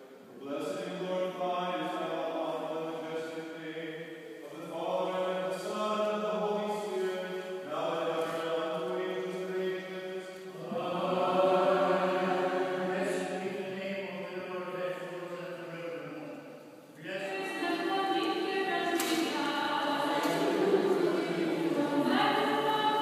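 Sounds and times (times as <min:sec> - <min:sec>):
liturgical chant singing: 0:00.0 - 0:16.4, 0:17.0 - 0:23.0.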